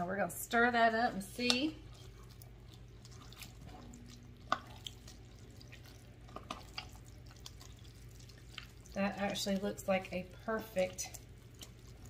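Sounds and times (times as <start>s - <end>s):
low steady hum: 0.0s - 12.0s
wet squelching of stirred pasta: 0.6s - 12.0s.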